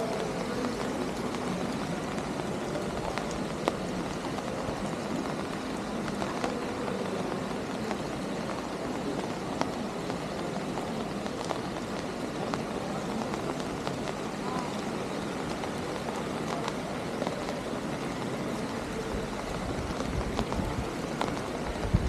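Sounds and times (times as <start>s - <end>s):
faint distant voices: 0.0s - 22.0s
street noise: 0.0s - 22.0s.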